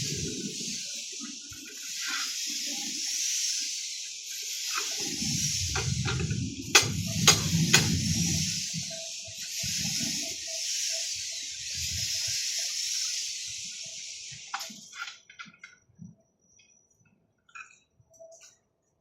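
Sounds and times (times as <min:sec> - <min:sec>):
loud steady hiss: 0:00.0 - 0:15.6.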